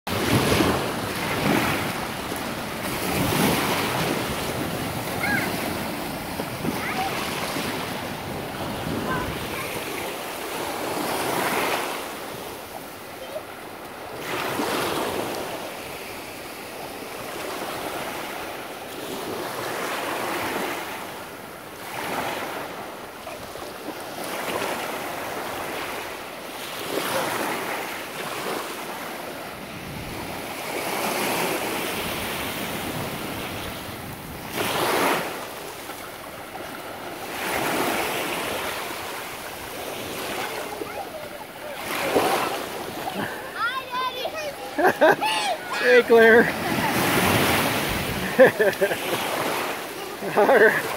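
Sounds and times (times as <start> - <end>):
surf waves washing on sand: 0.1 - 50.9.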